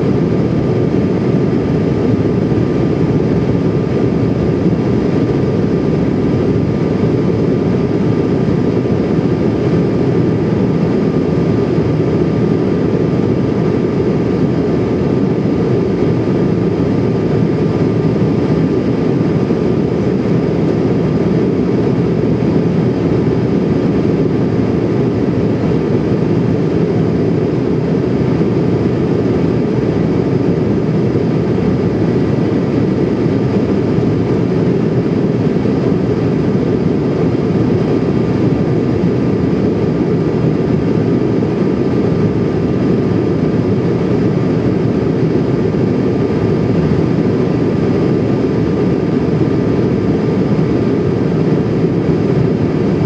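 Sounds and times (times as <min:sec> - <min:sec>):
airliner cabin engine rush: 0:00.0 - 0:53.0.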